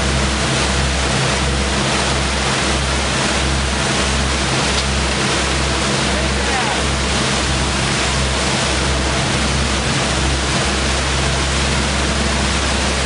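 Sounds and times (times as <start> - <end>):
boat engine drone: 0.0 - 13.0
churning spraying water: 0.0 - 13.0.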